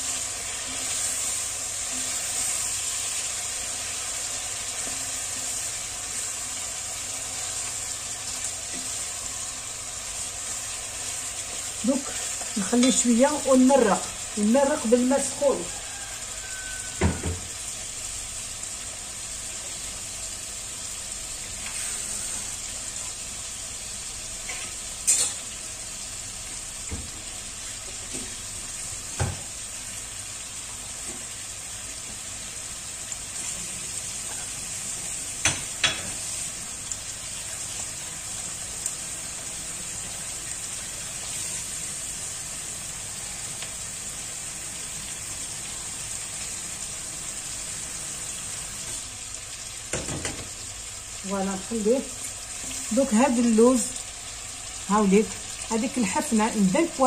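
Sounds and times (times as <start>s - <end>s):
food frying in oil: 0.0s - 57.0s.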